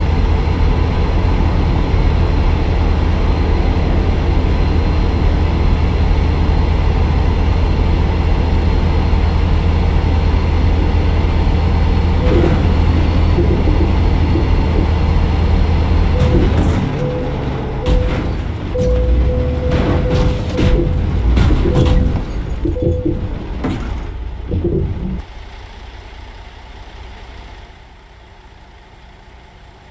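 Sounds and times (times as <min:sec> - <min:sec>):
heavy vehicle rumble: 0:00.0 - 0:29.9.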